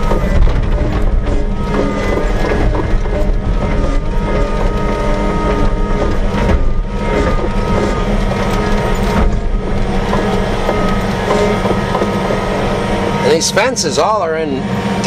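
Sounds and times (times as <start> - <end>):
farm vehicle engine running: 0.0 - 15.0.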